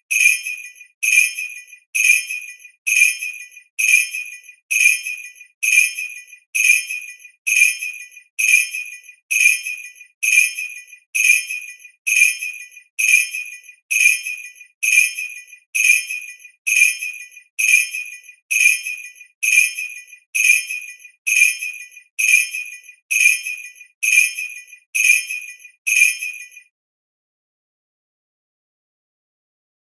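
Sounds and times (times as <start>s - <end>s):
sleigh bell ringing: 0.1s - 26.6s.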